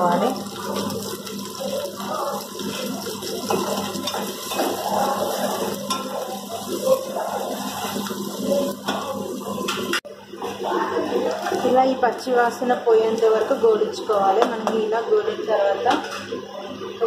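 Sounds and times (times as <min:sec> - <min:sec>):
onions frying in hot oil: 0:00.0 - 0:14.9.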